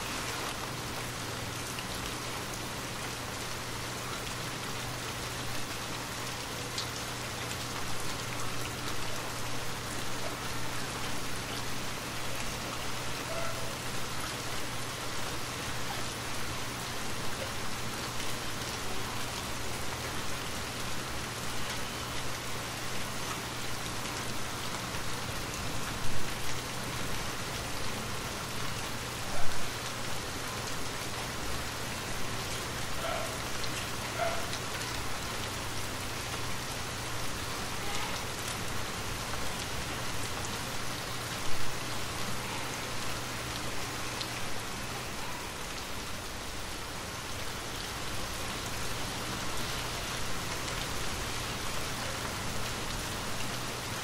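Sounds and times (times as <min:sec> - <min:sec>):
rain falling steadily: 0:00.0 - 0:54.0.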